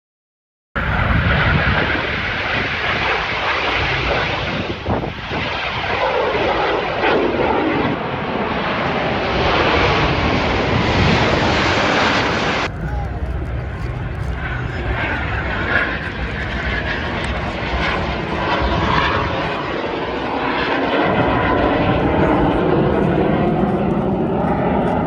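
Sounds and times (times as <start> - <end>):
jets flying past: 0.8 - 25.0.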